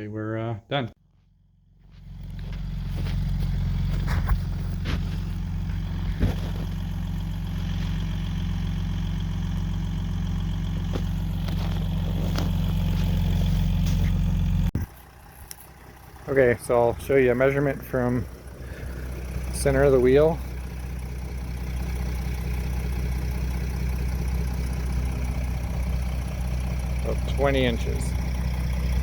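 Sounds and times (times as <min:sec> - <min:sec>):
motor idling hum: 0:01.0 - 0:29.0.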